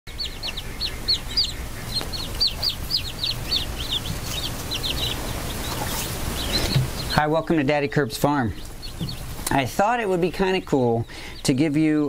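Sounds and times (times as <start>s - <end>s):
chicks peeping: 0.1s - 12.0s.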